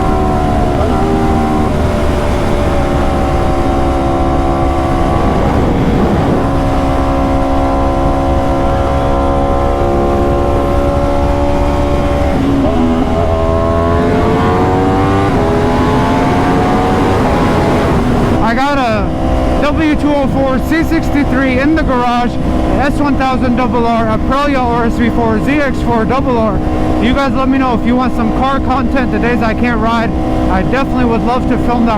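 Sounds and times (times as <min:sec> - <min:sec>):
motorcycle engine riding: 0:00.0 - 0:31.9.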